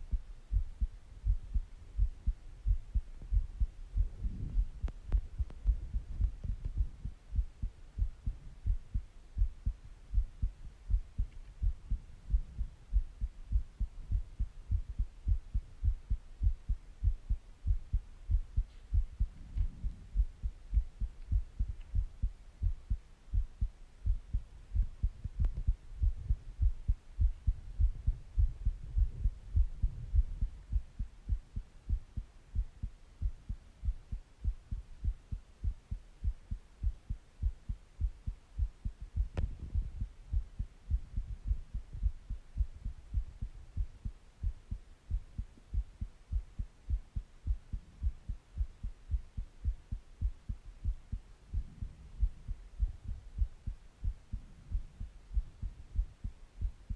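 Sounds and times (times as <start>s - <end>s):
heartbeat thumps: 0.0s - 56.9s.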